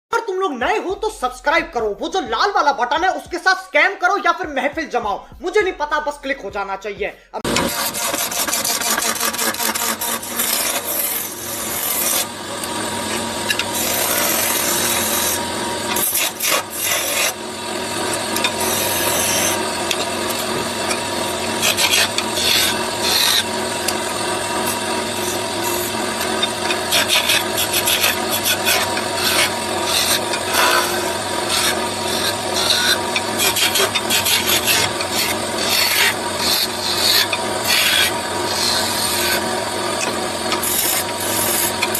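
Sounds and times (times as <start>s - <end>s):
tool scraping wood: 7.4s - 41.9s.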